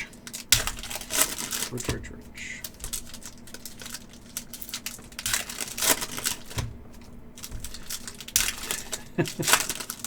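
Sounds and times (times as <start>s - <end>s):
cards clicking and rustling: 0.0s - 10.0s
trading card packs being opened: 0.0s - 10.0s.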